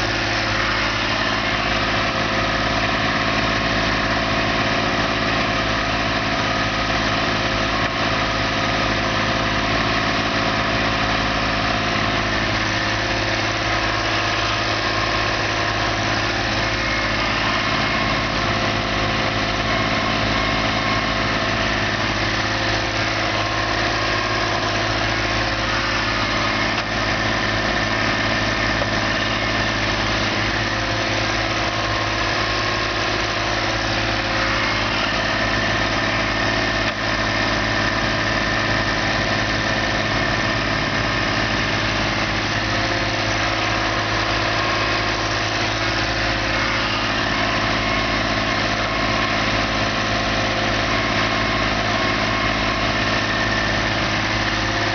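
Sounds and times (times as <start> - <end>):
diesel engine running steadily: 0.0 - 54.9.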